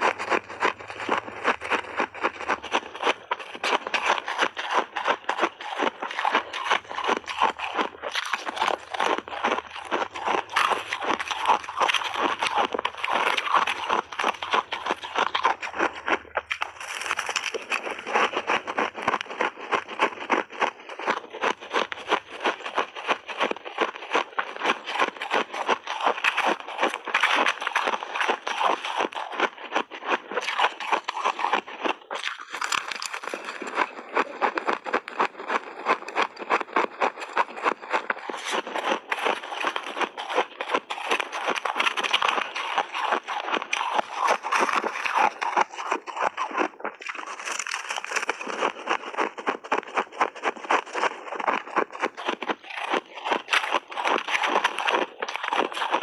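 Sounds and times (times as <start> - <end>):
crunching and chewing ice: 0.0 - 56.0.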